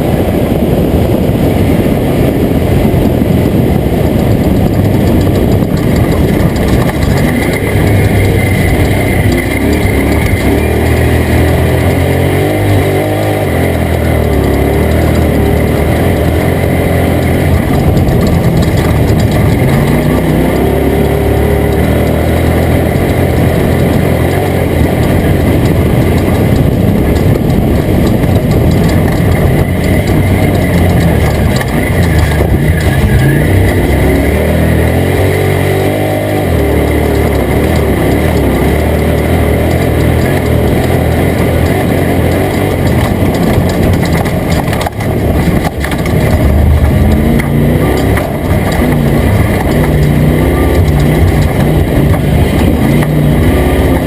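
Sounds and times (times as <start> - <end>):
race truck engine revving: 0.0 - 54.0.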